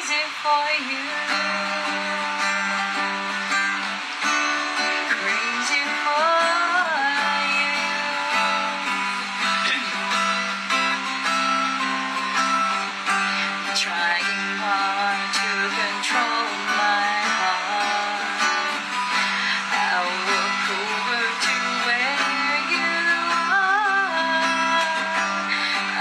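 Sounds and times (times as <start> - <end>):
acoustic guitar strumming: 0.0 - 26.0
person singing slow melody: 0.0 - 26.0.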